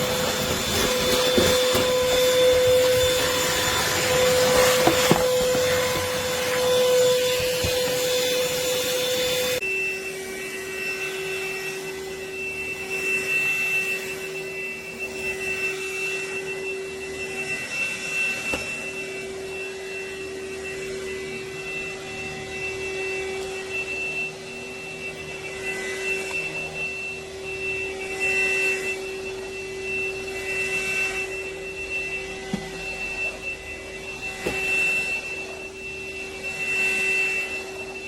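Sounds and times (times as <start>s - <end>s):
stick vacuum motor whine: 0.0s - 38.0s.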